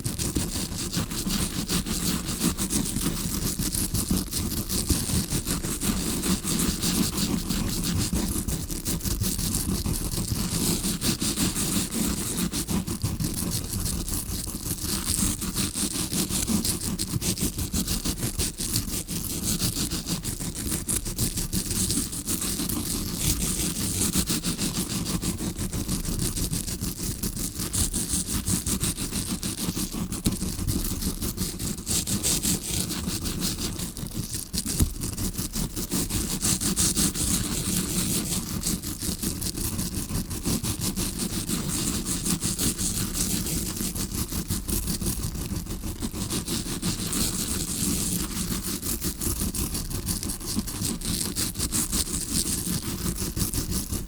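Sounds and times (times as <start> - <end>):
brush scratching on microphone: 0.0 - 54.0.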